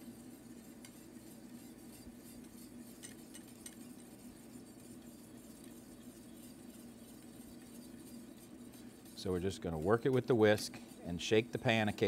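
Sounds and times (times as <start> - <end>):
low steady hum: 0.0 - 12.0
whisk clinking against metal pan: 0.0 - 12.0.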